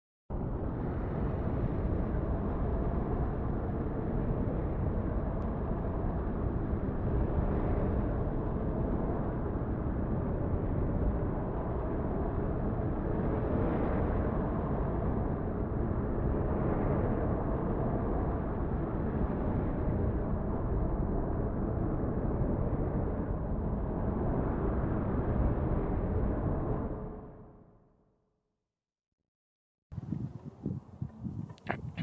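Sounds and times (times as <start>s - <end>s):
low outdoor rumble: 0.3s - 27.7s, 30.0s - 32.0s.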